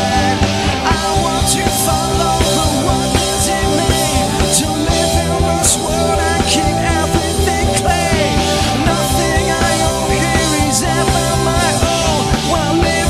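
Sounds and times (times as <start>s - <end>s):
live rock band playing: 0.0s - 13.0s
man singing: 0.0s - 13.0s.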